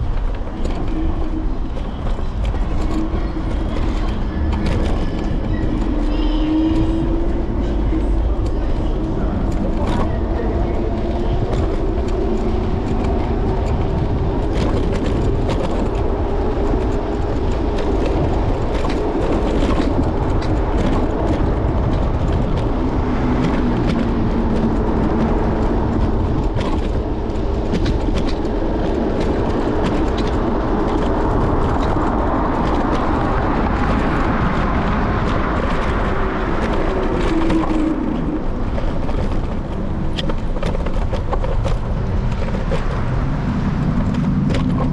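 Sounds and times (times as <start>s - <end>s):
electric scooter rumble: 0.0s - 44.9s.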